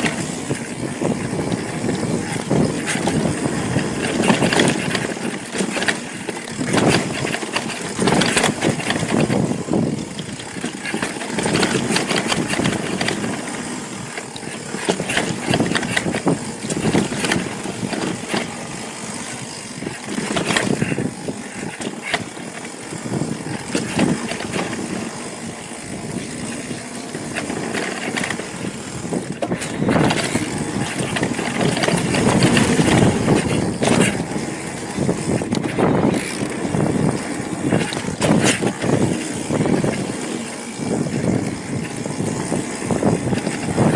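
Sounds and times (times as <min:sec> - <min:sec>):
wind on microphone: 0:00.0 - 0:13.4, 0:14.0 - 0:43.9
bike rattling over bumps: 0:00.0 - 0:43.9
bike tyres crunching over rock: 0:00.0 - 0:43.9.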